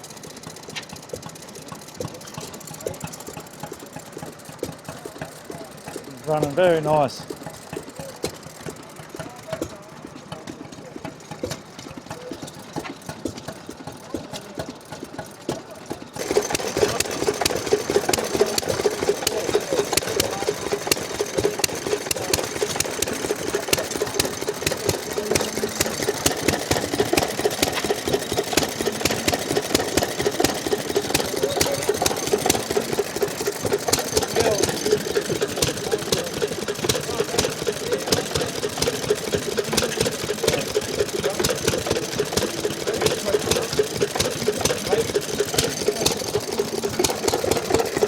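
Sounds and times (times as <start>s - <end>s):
stationary engine running: 0.0s - 48.0s.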